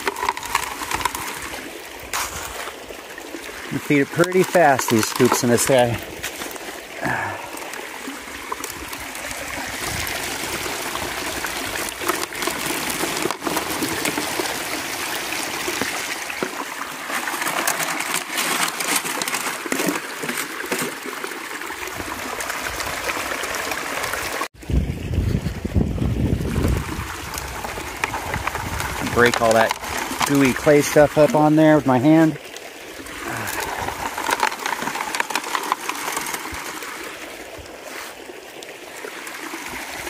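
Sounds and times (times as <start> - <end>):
water rushing down a sluice: 0.0 - 40.0.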